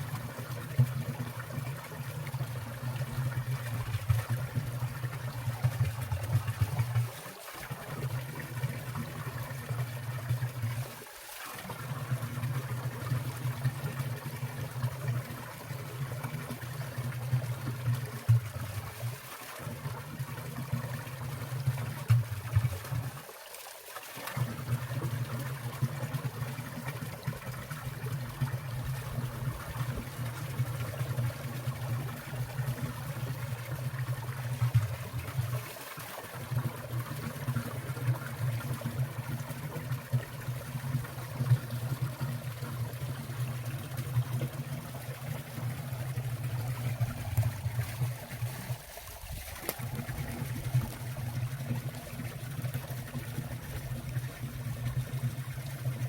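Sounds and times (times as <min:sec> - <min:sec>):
low water burble: 0:00.0 - 0:56.0
stream trickling and splashing: 0:00.0 - 0:56.0.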